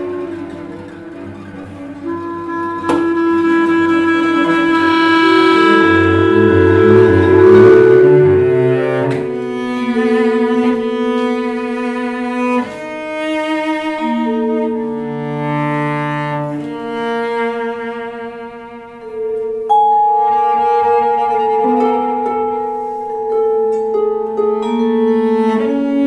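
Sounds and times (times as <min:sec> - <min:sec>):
cello long held notes: 0:00.0 - 0:26.0
chamber music ensemble: 0:00.0 - 0:26.0.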